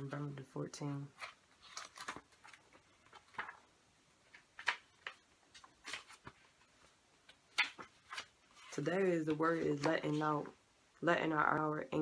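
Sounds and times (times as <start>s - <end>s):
book pages rustling: 0.0s - 10.6s.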